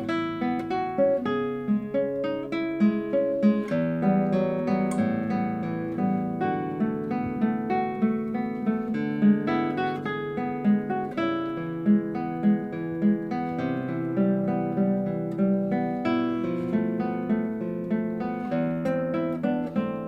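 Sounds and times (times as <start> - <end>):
solo classical guitar: 0.0 - 20.0.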